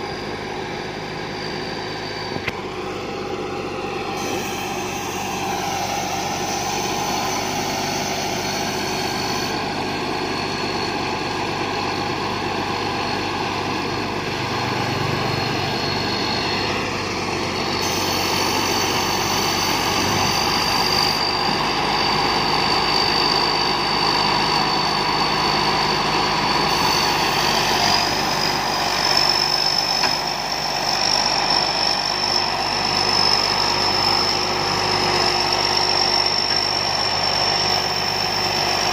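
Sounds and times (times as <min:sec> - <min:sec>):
harvester engine running: 0:00.0 - 0:38.9
high steady whine: 0:00.0 - 0:38.9.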